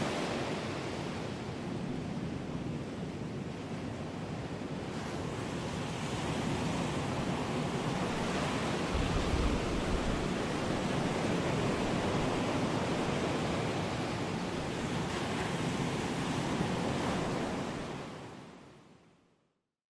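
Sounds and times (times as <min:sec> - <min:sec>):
deep rumble of surf: 0:00.0 - 0:18.9
ocean surf on rocky shore: 0:00.0 - 0:19.1.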